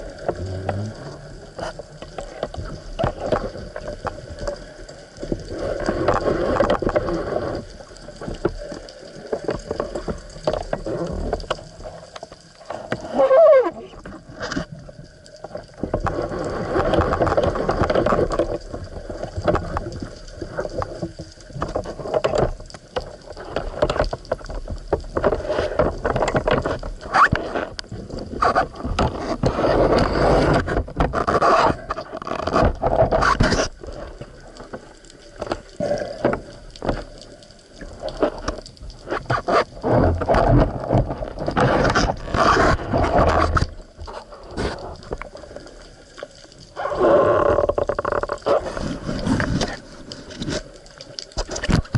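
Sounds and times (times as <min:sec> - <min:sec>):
water sloshing and gurgling: 0:00.0 - 0:51.9.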